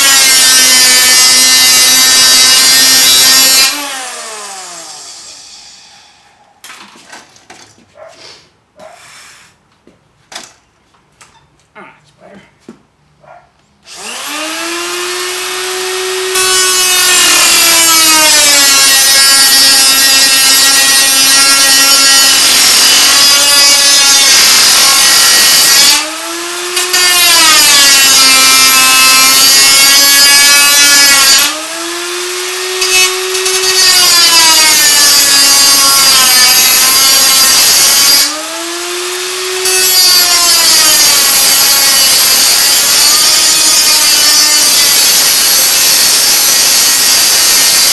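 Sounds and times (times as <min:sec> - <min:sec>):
cutoff tool grinding metal: 0:00.0 - 0:05.9, 0:13.9 - 0:47.9.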